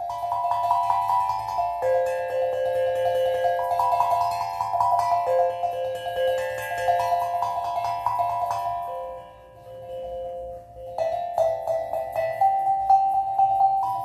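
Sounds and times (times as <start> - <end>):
steel tongue drum notes: 0.0 - 14.0.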